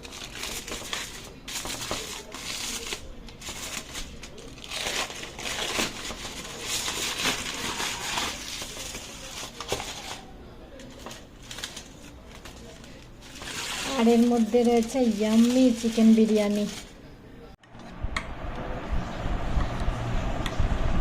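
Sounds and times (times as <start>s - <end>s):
crinkling and rustling: 0.0s - 17.0s.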